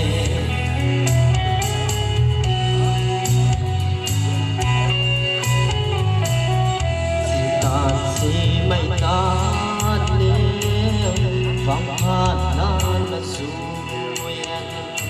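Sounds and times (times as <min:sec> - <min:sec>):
song with guitar and bass beat: 0:00.0 - 0:15.0.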